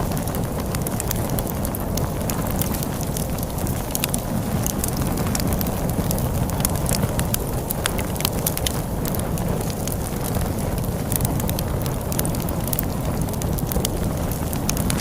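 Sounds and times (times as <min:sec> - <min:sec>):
storm wind rumbling: 0:00.0 - 0:15.0
wood fire crackling: 0:00.0 - 0:15.0.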